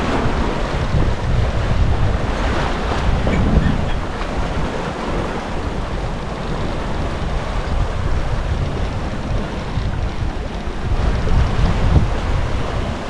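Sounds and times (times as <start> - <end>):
rush of waves: 0.0 - 13.0
wind buffeting microphone: 0.0 - 13.0.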